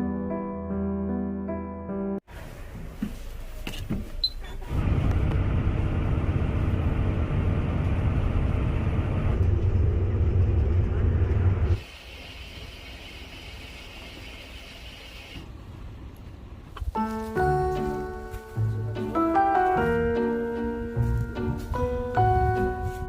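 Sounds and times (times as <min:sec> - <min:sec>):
bus engine and road rumble: 0:02.3 - 0:11.9, 0:13.4 - 0:23.0.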